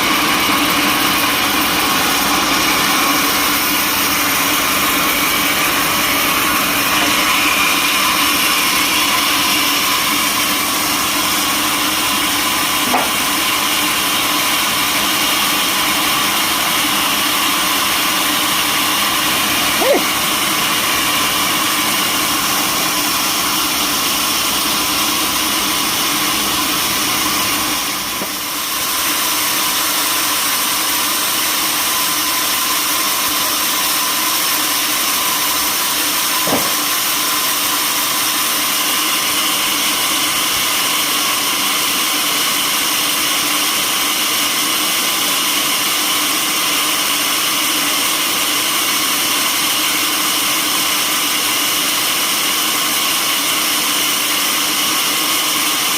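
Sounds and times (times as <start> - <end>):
sawmill machinery drone: 0.0 - 55.9.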